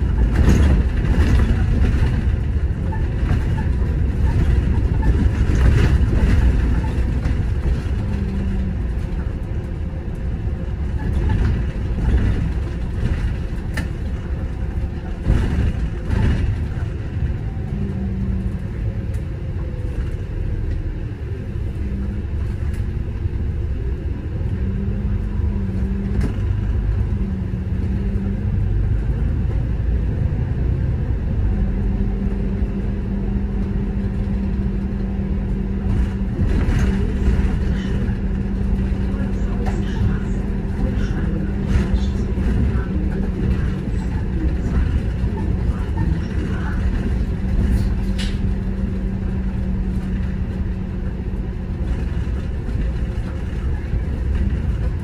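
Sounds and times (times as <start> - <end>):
bus engine and road rumble: 0.0 - 55.0
low hum: 0.0 - 55.0.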